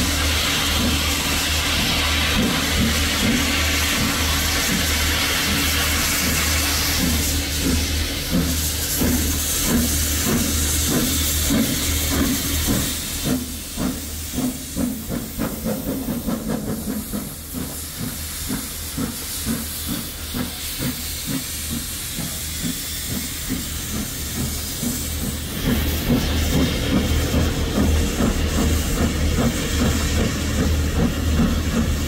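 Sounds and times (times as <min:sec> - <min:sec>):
steam hissing: 0:00.0 - 0:32.0
steam locomotive rhythmic beat: 0:00.0 - 0:32.0.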